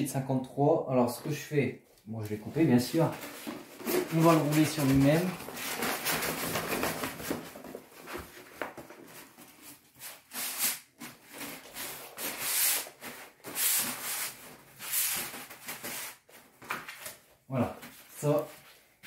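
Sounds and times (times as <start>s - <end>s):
paper rustling on floor: 2.6s - 19.0s.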